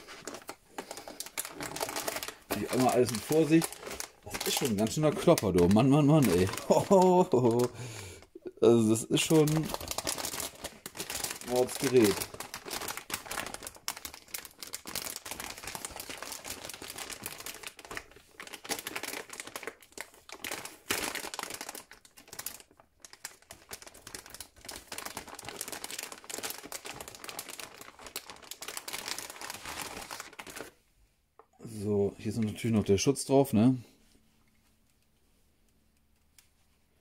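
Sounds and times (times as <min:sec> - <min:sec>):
plastic bag crinkling: 0:00.0 - 0:30.8.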